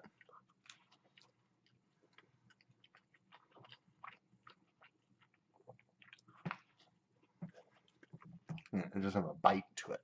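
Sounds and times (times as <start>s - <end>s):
faint chewing: 0.0s - 9.0s.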